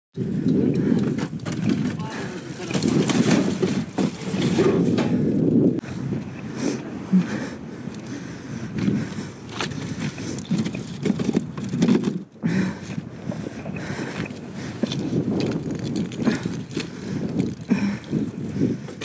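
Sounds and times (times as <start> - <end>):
wind rumbling on microphone: 0.2 - 19.0.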